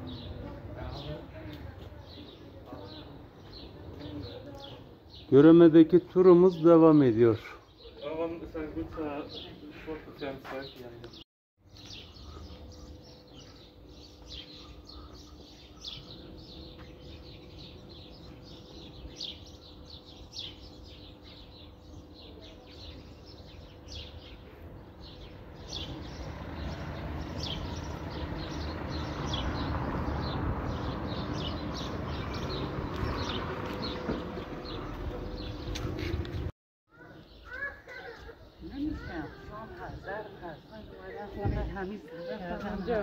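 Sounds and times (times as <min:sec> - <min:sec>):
small birds chirping: 0:06.2 - 0:43.0.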